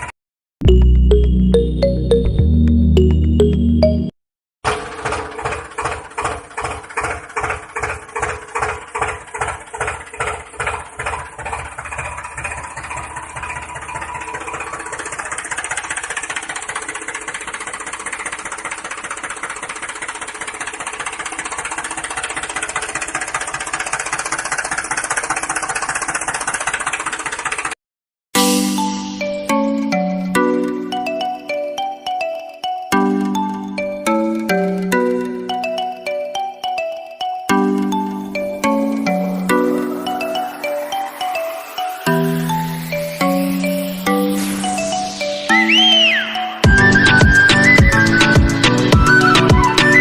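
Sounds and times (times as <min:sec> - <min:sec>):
small engine chugging: 0:04.6 - 0:27.8, 0:30.2 - 0:50.0.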